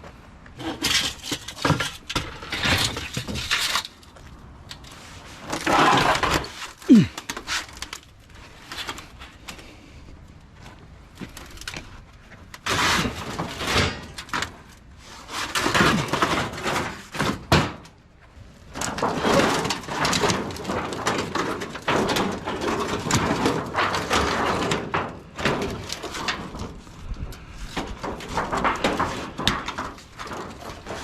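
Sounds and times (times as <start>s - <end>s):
sheet metal scraping and rattling: 0.6s - 4.1s, 4.7s - 9.1s, 12.5s - 17.9s, 18.7s - 31.0s.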